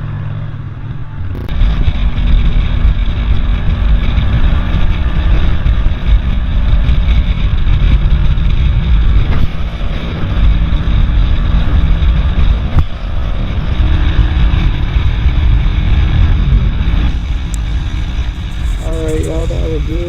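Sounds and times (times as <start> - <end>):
deep uneven rumble: 0.0 - 20.0
road traffic noise: 0.0 - 20.0.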